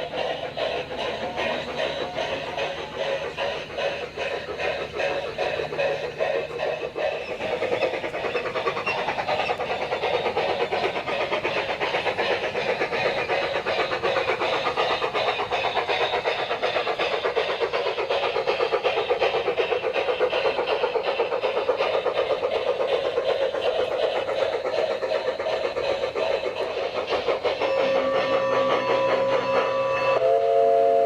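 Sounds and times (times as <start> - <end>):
model train clicking: 0.0 - 31.0.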